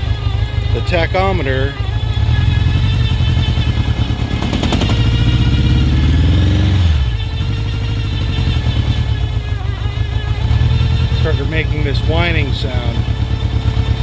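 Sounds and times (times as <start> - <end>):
motorcycle engine idling and revving: 0.0 - 14.0
tachometer whine: 0.0 - 14.0.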